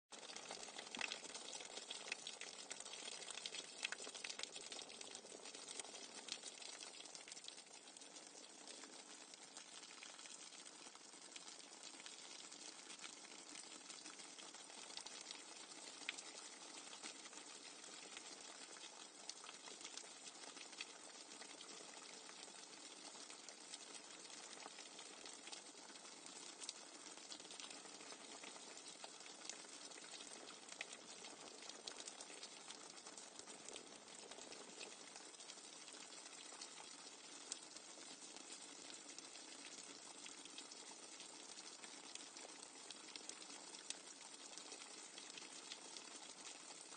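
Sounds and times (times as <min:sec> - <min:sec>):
rainwater dripping: 0:00.1 - 0:46.9.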